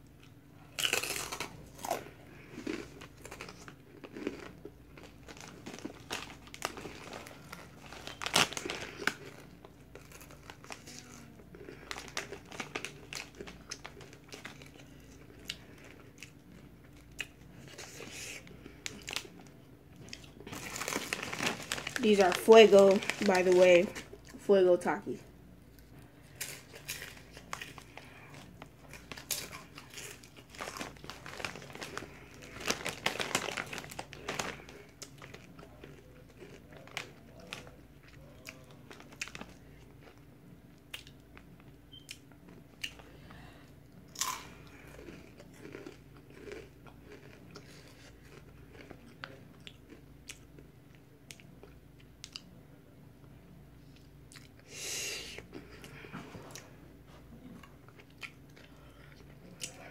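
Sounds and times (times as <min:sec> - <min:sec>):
chips crunching and chewing: 0:00.1 - 0:24.4, 0:25.8 - 0:43.1, 0:44.1 - 0:52.5.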